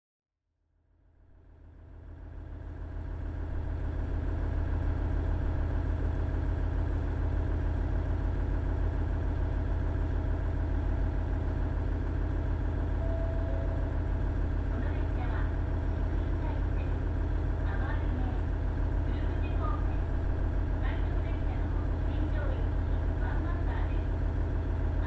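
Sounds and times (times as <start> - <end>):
diesel engine idling: 2.5 - 25.0.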